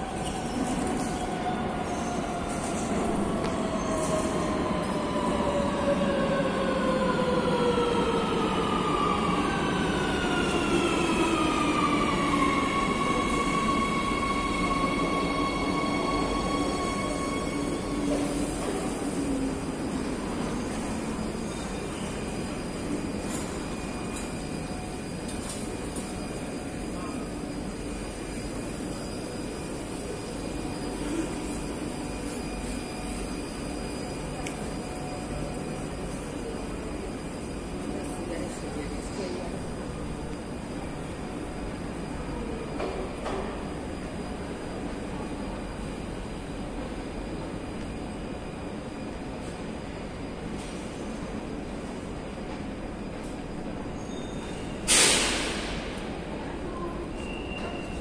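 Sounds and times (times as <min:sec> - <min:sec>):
train low rumble and hum: 0:00.0 - 0:58.0.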